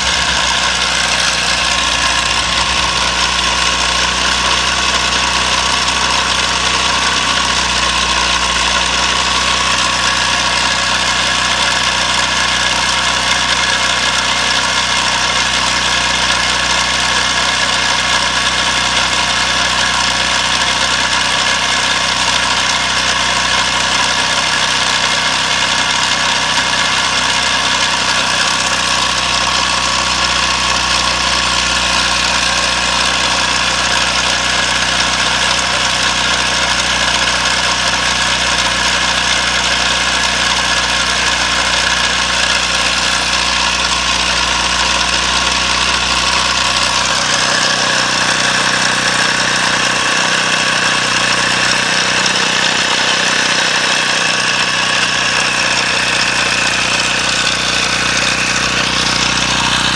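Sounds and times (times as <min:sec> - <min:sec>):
small engine running steadily: 0:00.0 - 0:59.9.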